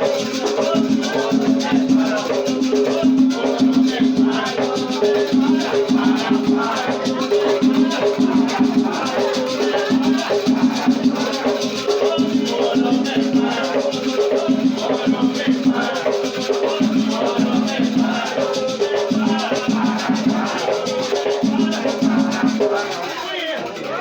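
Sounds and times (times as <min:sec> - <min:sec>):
drums: 0:00.0 - 0:23.0
shaker rattles: 0:00.0 - 0:24.0
voices chanting: 0:00.0 - 0:24.0.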